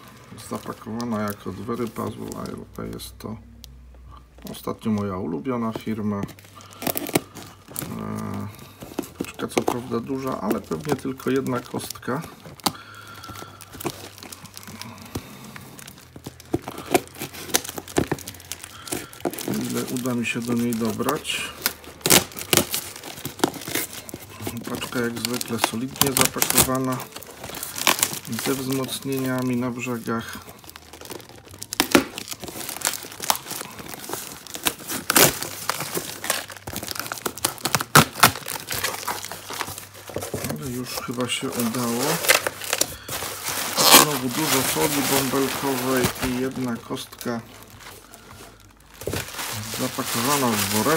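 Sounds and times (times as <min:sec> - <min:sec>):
packing tape crackling: 0:00.0 - 0:03.0, 0:04.4 - 0:50.9
plastic parcel crinkling: 0:00.0 - 0:03.3, 0:04.4 - 0:50.9
knife cutting wrapping: 0:06.6 - 0:48.0, 0:48.6 - 0:50.9.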